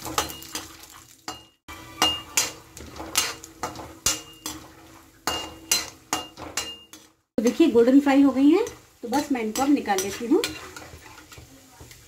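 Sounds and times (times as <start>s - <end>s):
metal spatula scraping a pan: 0.0s - 12.0s
peanuts frying in oil: 0.0s - 12.0s.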